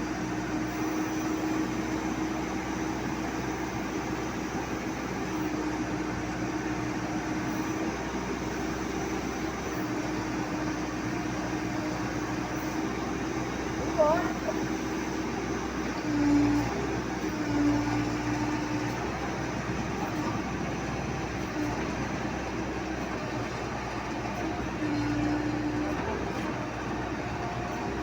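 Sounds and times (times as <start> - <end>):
engine running hum: 0.0 - 28.0.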